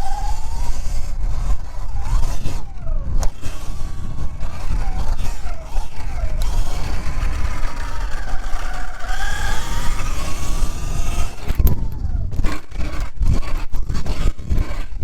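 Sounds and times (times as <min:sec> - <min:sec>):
electric dirt bike motor whining: 0:00.0 - 0:15.0.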